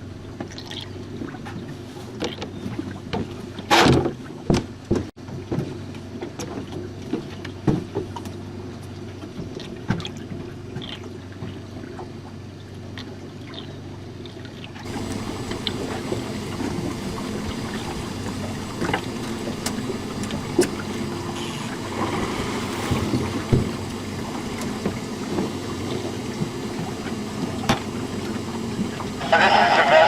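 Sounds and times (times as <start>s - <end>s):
outboard motor humming: 0.0s - 30.0s.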